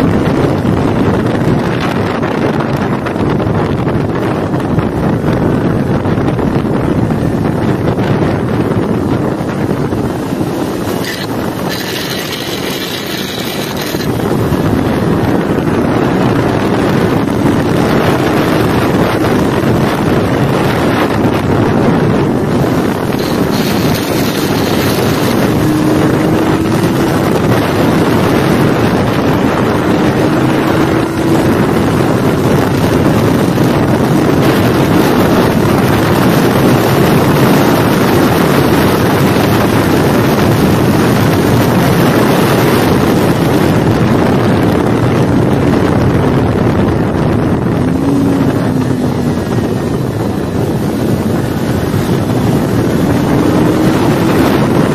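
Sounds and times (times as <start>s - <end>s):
motorcycle engine running hard: 0.0s - 54.9s
wind rushing over microphone: 0.0s - 54.9s.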